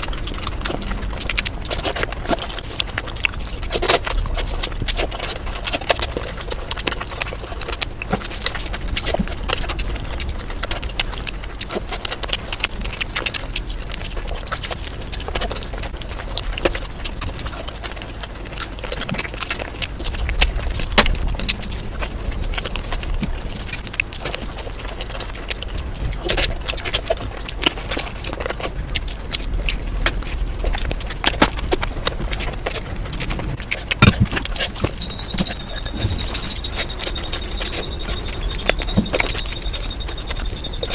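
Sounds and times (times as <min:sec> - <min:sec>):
low steady rumble: 0:00.0 - 0:40.9
person chewing and smacking: 0:00.0 - 0:40.9.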